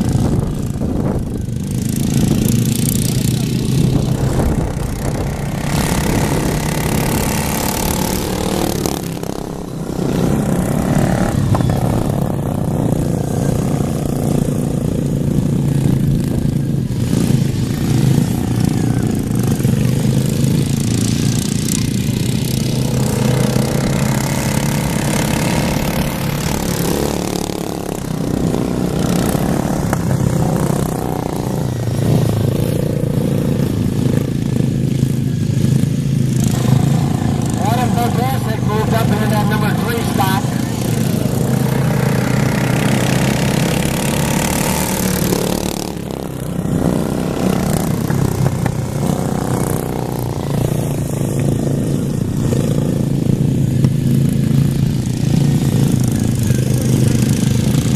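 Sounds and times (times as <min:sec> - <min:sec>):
racing lawn mower engines: 0:00.0 - 0:57.9.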